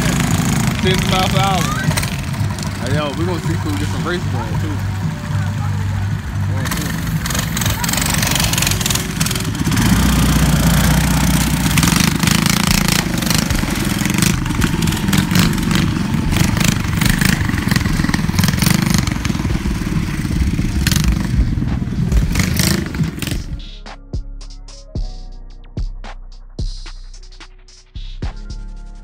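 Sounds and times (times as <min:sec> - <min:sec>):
mini bike engines running: 0:00.0 - 0:23.6
rough engine crackling: 0:00.0 - 0:23.7.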